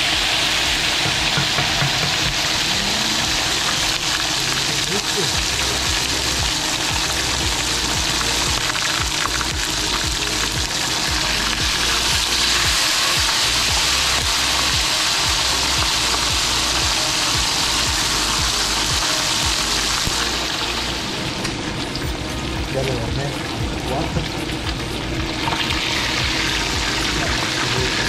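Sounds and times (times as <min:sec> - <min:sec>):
fish sizzling in hot oil: 0:00.0 - 0:28.0.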